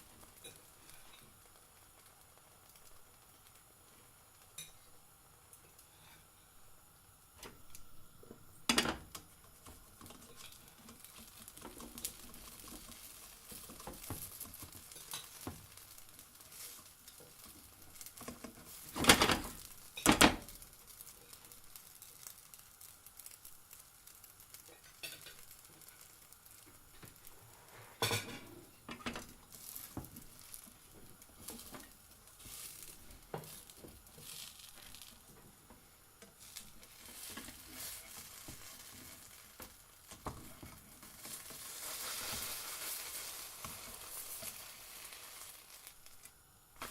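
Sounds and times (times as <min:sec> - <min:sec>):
pancake sizzling in a pan: 0:00.0 - 0:46.9.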